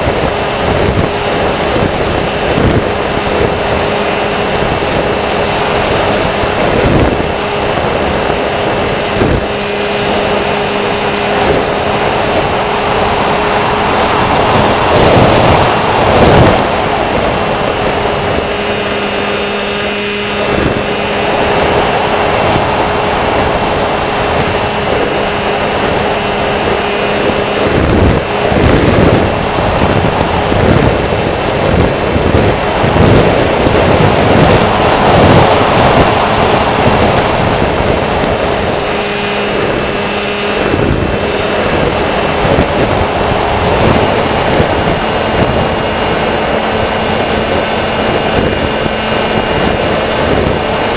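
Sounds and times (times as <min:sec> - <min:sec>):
model aircraft motors whining: 0:00.0 - 0:50.9
wind noise on microphone: 0:00.0 - 0:50.9.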